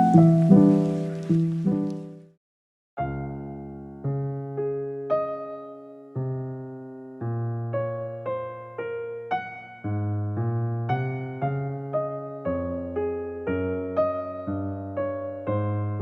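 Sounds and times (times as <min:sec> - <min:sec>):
gentle electric piano: 0:00.0 - 0:02.3, 0:03.0 - 0:16.0.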